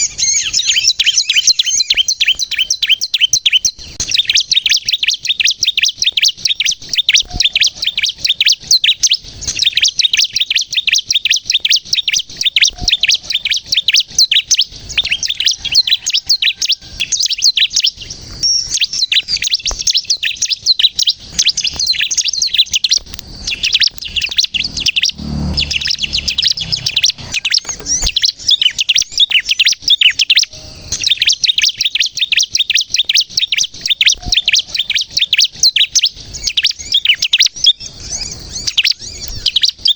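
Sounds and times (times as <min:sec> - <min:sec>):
bird chattering high chirps: 0:00.0 - 0:39.7.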